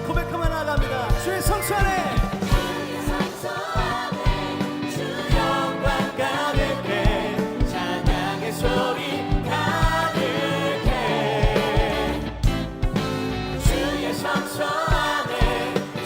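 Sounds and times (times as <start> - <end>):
steady drum beat: 0.0 - 16.0
worship band with singers: 0.0 - 16.0.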